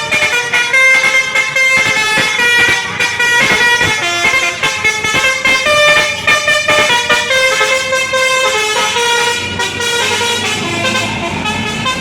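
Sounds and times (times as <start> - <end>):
bus musical horn melody: 0.0 - 12.0.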